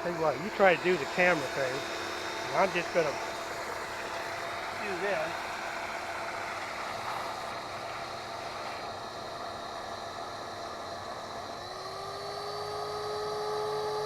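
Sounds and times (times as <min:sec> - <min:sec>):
pressure washer running: 0:00.0 - 0:14.0
pump whine: 0:00.0 - 0:14.0.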